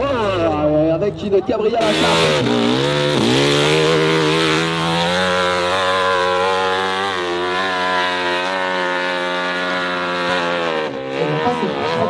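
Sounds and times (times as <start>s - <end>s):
racing engine at high revs: 1.8s - 12.0s.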